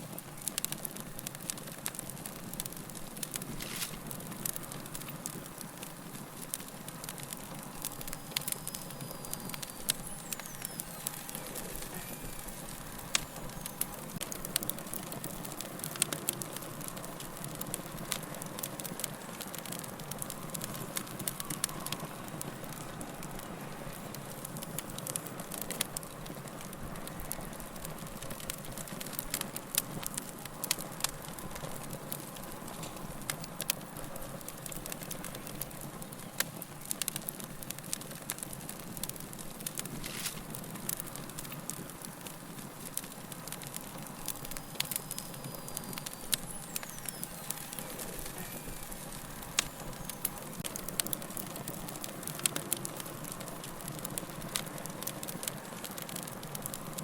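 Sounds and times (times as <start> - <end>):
low hiss of flame: 0.0 - 57.0
wood fire crackling: 0.0 - 57.0.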